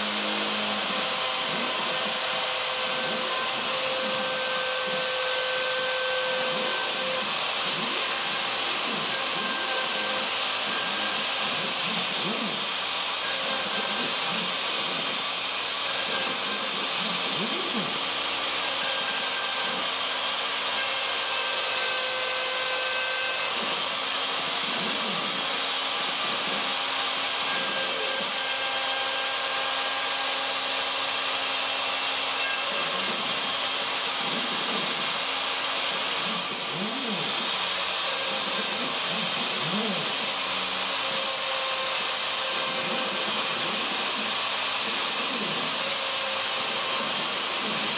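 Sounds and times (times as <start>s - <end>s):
router whining while cutting wood: 0.0s - 47.9s.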